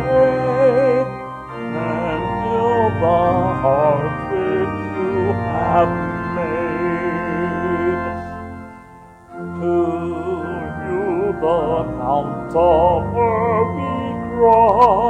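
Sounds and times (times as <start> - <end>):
people singing a hymn: 0.0 - 8.5, 9.4 - 14.9
organ chords: 0.0 - 15.0.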